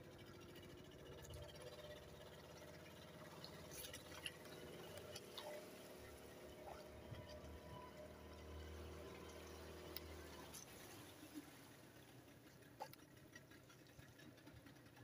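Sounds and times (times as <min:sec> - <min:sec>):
water lapping against boat hull: 0:00.5 - 0:15.0.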